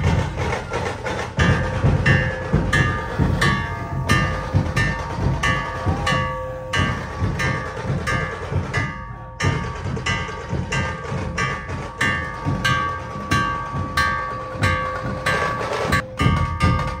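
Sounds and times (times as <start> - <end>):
drum beat: 0.0 - 17.0
ringing metal instrument struck: 1.3 - 17.0.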